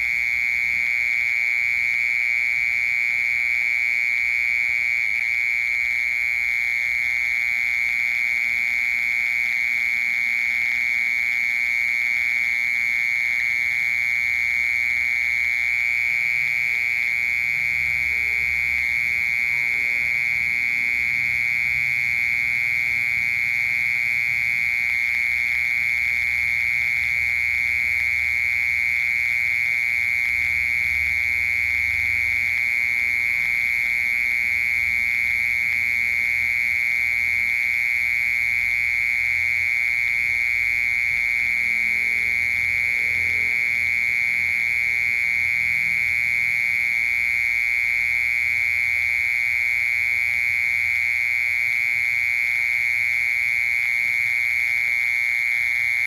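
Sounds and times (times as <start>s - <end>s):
mole cricket buzzing trill: 0.0s - 56.0s.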